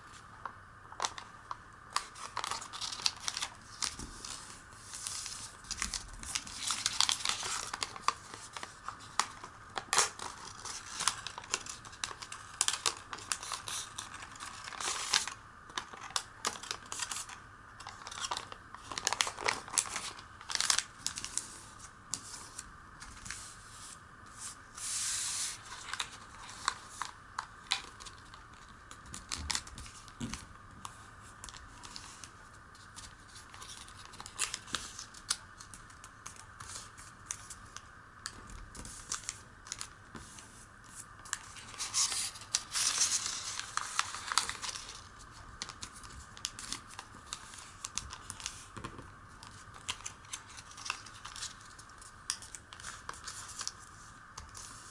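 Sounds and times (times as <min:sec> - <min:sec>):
paper rustling and crinkling: 0:00.9 - 0:54.9.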